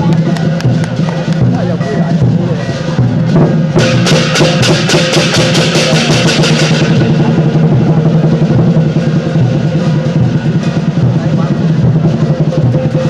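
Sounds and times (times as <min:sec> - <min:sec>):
big drum beating: 0:00.0 - 0:13.0
cymbals clashing: 0:00.0 - 0:13.0.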